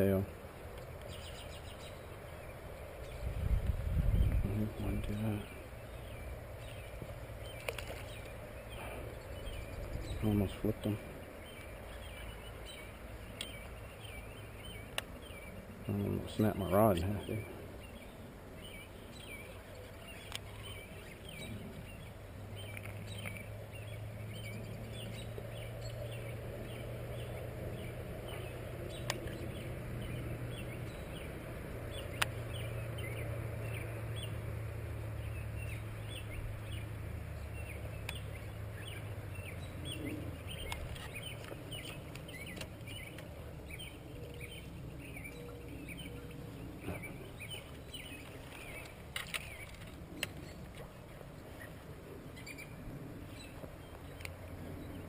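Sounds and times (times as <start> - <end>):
low steady rumble: 0.0 - 55.0.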